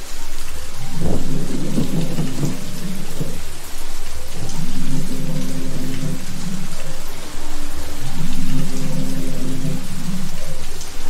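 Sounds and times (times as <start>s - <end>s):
heavy rain: 0.0s - 11.0s
low thunder rumble: 0.7s - 10.8s.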